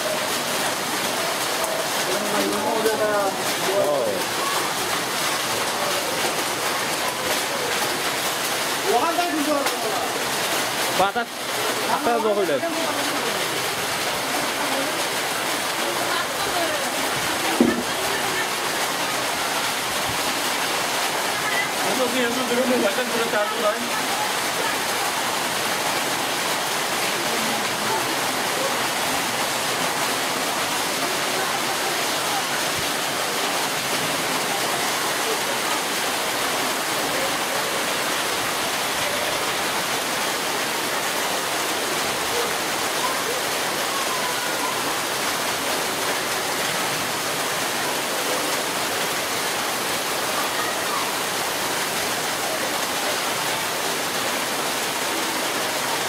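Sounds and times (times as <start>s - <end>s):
heavy rain on ground: 0.0s - 56.0s.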